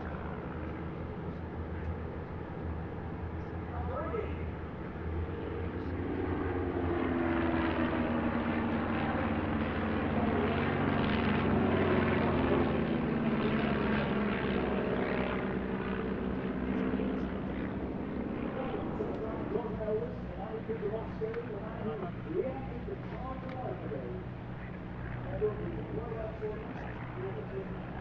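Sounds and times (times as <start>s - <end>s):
biplane engines droning: 0.0s - 28.0s.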